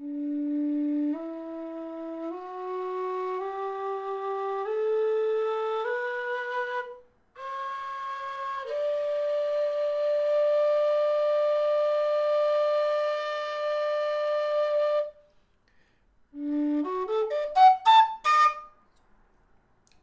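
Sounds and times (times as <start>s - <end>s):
low whistle playing notes: 0.0s - 19.0s.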